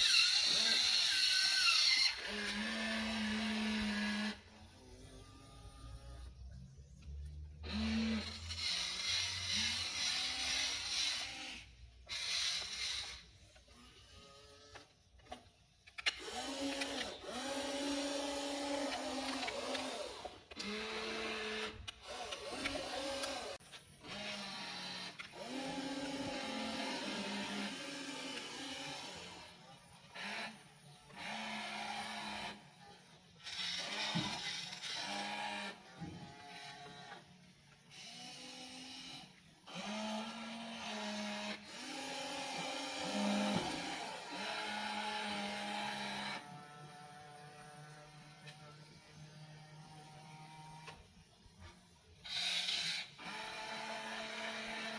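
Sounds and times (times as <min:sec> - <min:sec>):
small electric motors whining: 0:00.0 - 0:54.9.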